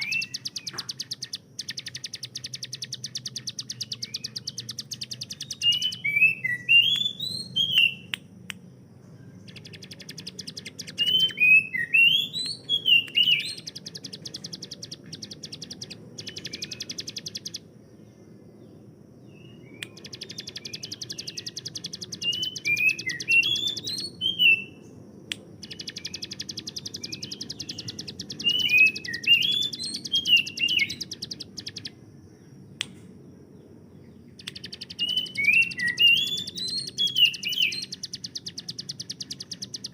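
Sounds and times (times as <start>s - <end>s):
bird rapid trills: 0.0s - 8.0s, 9.4s - 17.7s, 19.9s - 24.6s, 25.6s - 32.0s, 34.4s - 39.9s.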